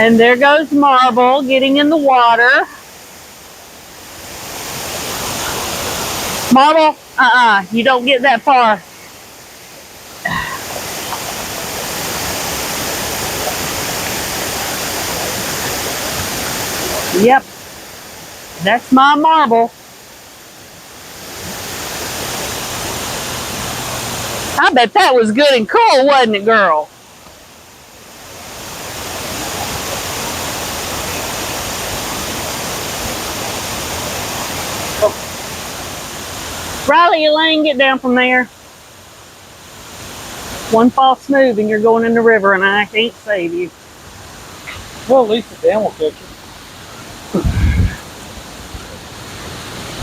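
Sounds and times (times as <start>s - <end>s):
water rushing over a dam: 0.0s - 41.6s.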